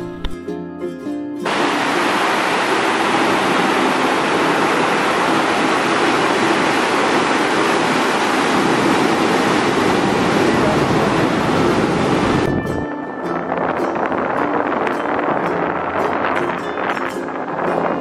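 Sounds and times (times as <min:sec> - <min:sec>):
river water rushing through gates: 0:01.4 - 0:18.0.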